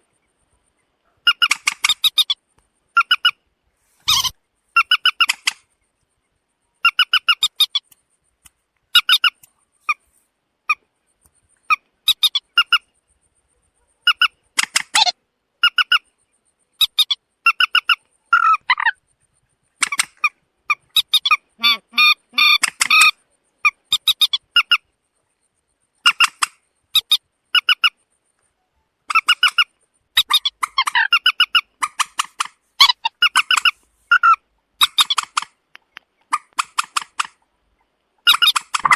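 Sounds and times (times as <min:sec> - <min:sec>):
moorhen harsh clucking calls: 0:00.0 - 0:05.9, 0:06.6 - 0:08.0, 0:08.9 - 0:38.9.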